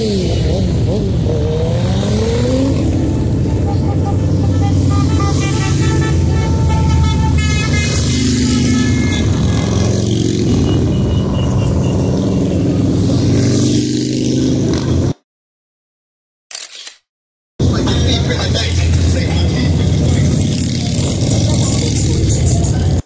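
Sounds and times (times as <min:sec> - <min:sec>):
motorcycles riding past: 0:00.0 - 0:15.2, 0:18.1 - 0:23.0.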